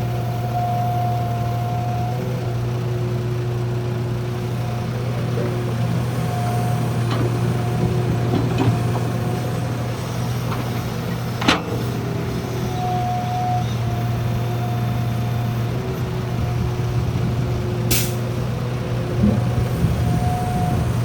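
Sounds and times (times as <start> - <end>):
diesel machinery running: 0.0 - 21.0.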